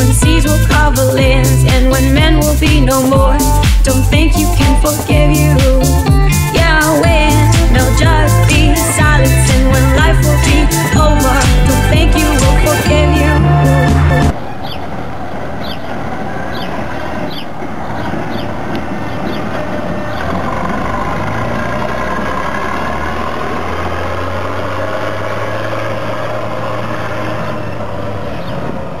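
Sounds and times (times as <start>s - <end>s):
combine harvester engine running: 0.0s - 16.2s, 18.6s - 29.0s.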